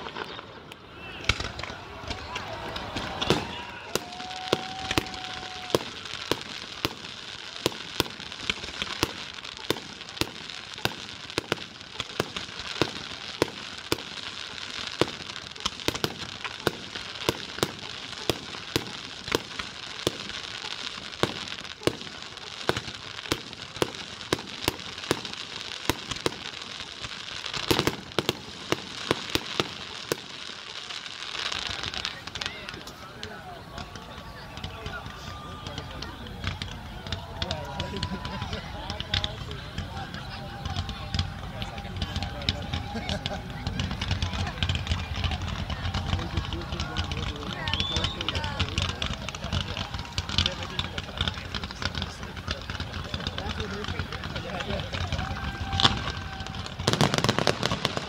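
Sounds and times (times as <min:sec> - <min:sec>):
firework whistle: 0:00.0 - 0:38.4, 0:39.2 - 0:58.0
fireworks crackle: 0:00.0 - 0:58.0.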